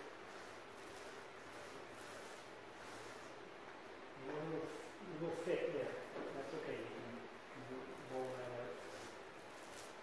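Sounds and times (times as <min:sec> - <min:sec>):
paint roller spreading adhesive: 0:00.0 - 0:03.5, 0:04.2 - 0:10.0.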